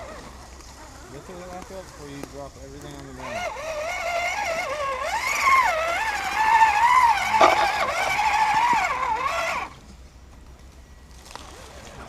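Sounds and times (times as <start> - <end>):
electric motor and gearbox whining: 0.0 - 9.9.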